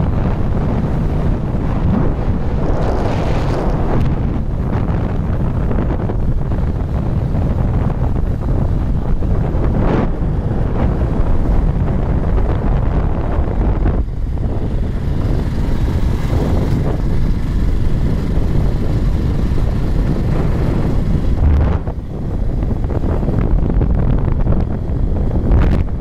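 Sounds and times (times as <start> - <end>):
motorcycle engine: 0.0 - 26.0
road noise: 0.0 - 26.0
wind rushing over microphone: 0.0 - 26.0.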